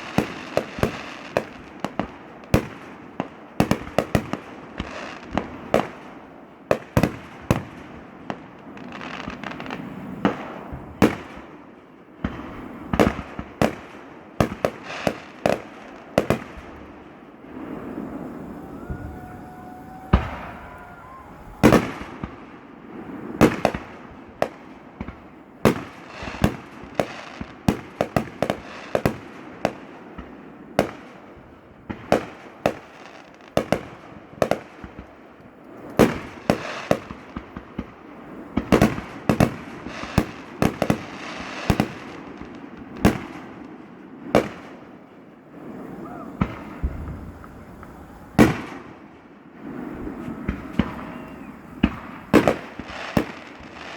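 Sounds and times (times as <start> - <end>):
fireworks bursting in sharp bangs: 0.0 - 53.9.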